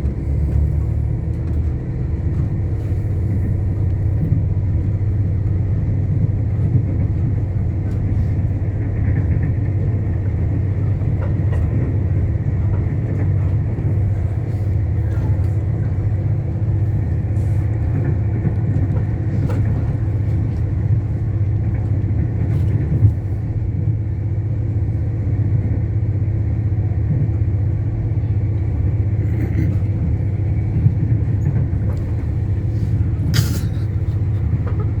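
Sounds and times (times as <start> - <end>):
train rumble and drone: 0.0 - 35.0.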